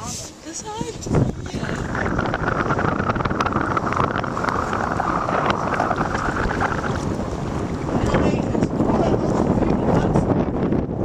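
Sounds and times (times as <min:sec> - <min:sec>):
boat engine rumble: 0:00.0 - 0:11.0
water: 0:00.0 - 0:11.0
wind buffeting microphone: 0:00.0 - 0:11.0.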